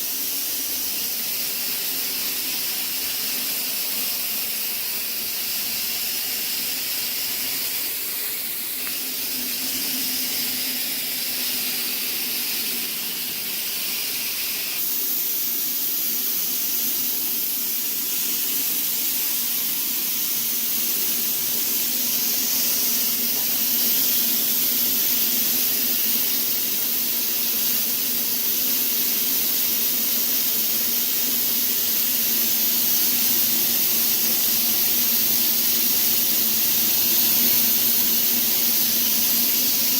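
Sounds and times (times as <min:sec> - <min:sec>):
fogger spraying with steady hiss: 0:00.0 - 0:39.9.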